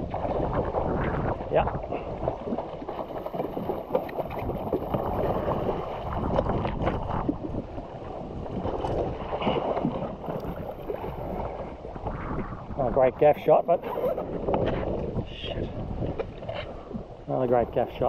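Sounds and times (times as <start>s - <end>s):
water splashing and slapping: 0.0s - 18.0s
wind buffeting microphone: 0.0s - 18.0s.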